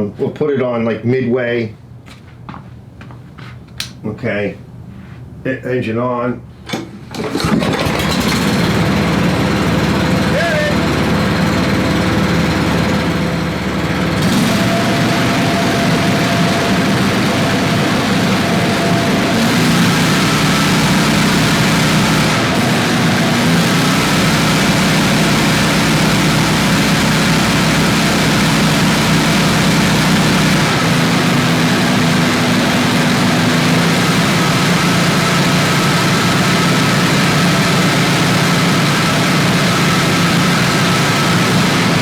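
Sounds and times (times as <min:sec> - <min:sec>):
blower fan rushing: 0:06.3 - 0:42.0
leaf blower engine running: 0:07.1 - 0:42.0.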